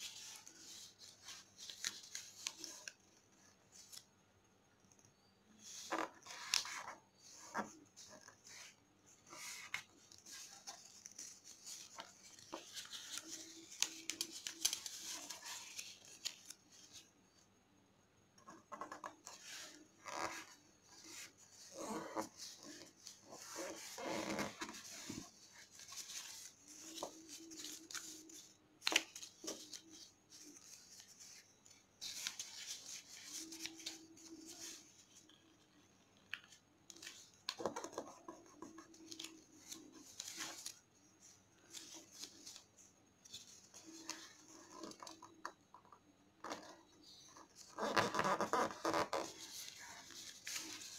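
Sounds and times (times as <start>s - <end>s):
paper crinkling and crackling: 0.0s - 4.1s, 4.9s - 17.1s, 18.4s - 50.9s.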